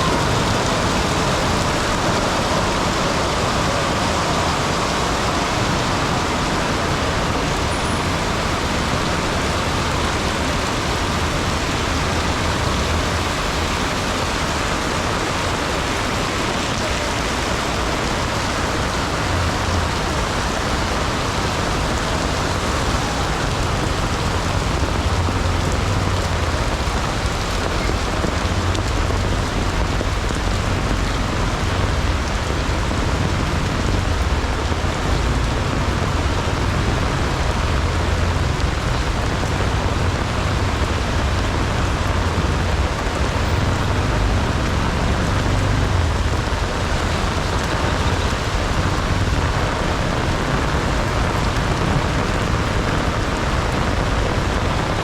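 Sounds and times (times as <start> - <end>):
heavy rain pouring: 0.0 - 55.0
low rumble of road traffic: 0.0 - 55.0.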